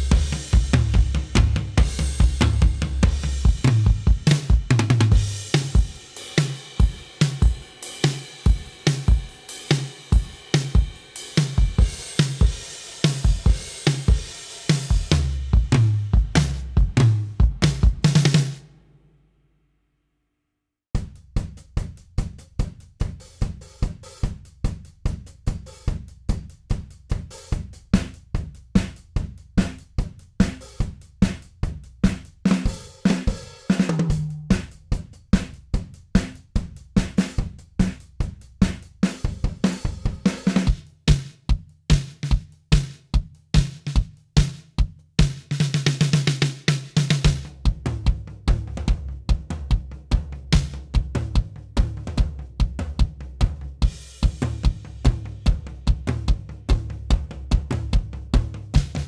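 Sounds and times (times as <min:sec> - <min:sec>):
drum kit playing pop groove: 0:00.0 - 0:18.7, 0:21.0 - 0:59.0.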